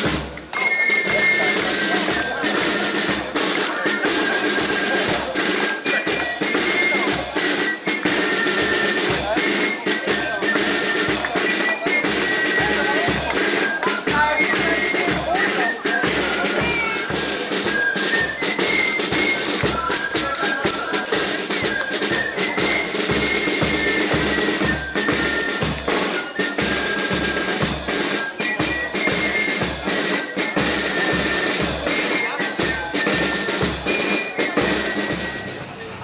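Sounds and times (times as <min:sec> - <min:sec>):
snare drum: 0:00.0 - 0:35.7
high melody line: 0:00.1 - 0:35.6.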